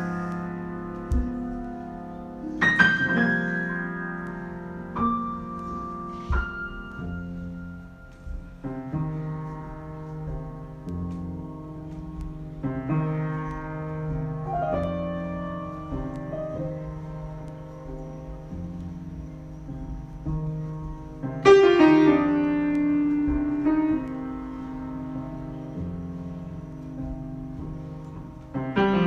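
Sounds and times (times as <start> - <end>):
slow piano improvisation: 0.0 - 29.0.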